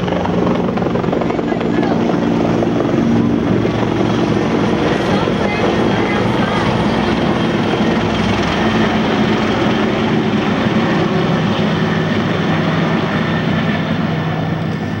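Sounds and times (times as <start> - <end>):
loud engine drone: 0.0 - 15.0.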